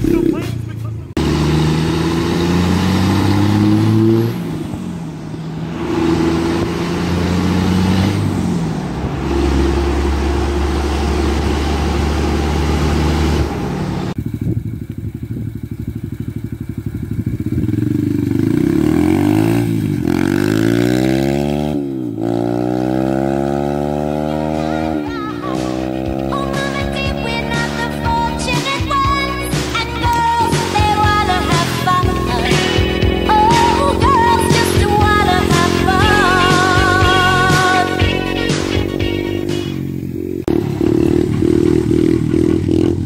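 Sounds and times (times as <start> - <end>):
dirt bike engine revving: 0.0 - 43.0
pickup truck engine driving: 0.0 - 43.0.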